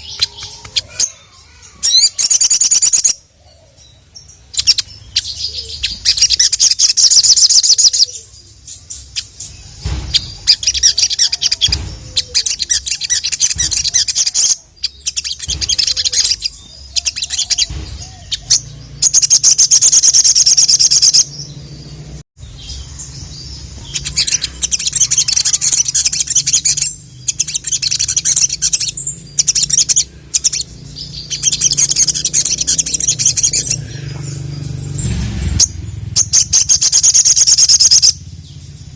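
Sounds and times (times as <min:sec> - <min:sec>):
sunbird chattering song: 0:00.0 - 0:38.9.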